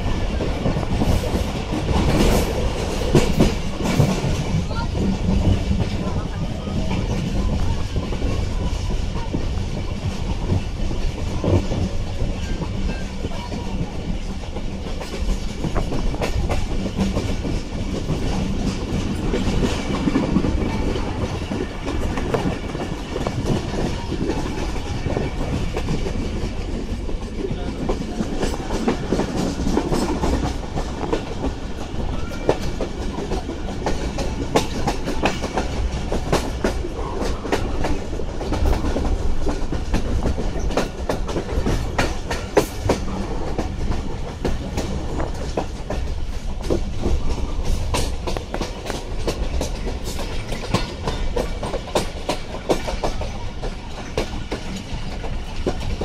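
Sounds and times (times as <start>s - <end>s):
train carriage rumbling: 0.0s - 56.0s
wheels clicking on rails: 0.0s - 56.0s.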